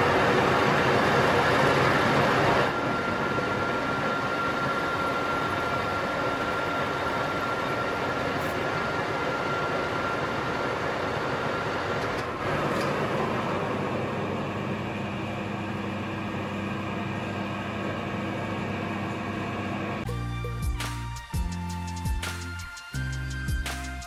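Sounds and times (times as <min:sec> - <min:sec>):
lathe machining with whine: 0:00.0 - 0:20.1
machine hum: 0:00.0 - 0:20.1.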